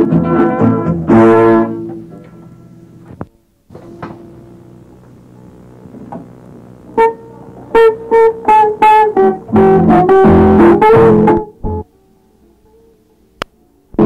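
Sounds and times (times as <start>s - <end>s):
guitar or piano notes: 0.0s - 3.1s, 3.7s - 11.9s.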